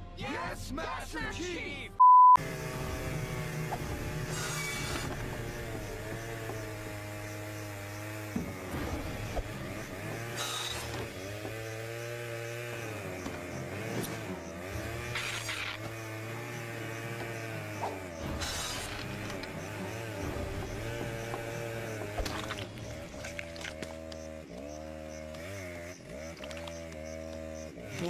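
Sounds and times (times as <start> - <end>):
cartoon chainsaw revving: 2.4 - 28.0.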